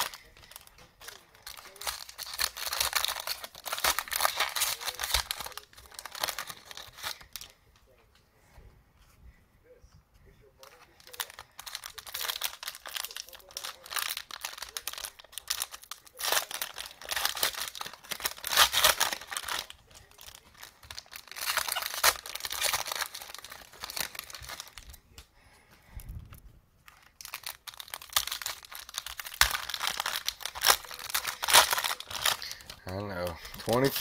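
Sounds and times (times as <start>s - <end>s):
plastic wrappers crinkling and tearing: 0.0s - 7.9s, 10.5s - 34.0s.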